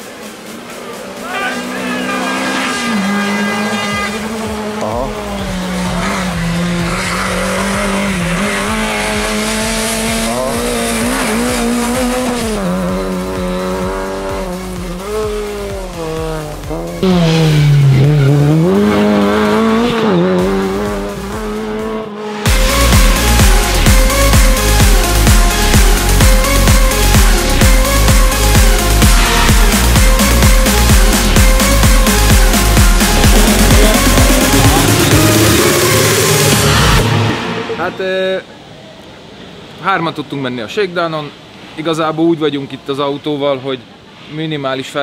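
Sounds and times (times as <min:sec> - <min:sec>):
rally car engine at high revs: 0:00.0 - 0:25.4, 0:26.0 - 0:37.6
electronic dance music: 0:00.0 - 0:38.4.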